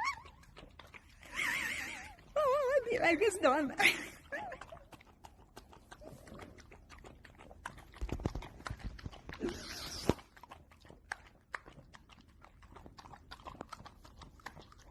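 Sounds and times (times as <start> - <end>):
dog eating wet clicks and smacks: 0.0 - 14.9.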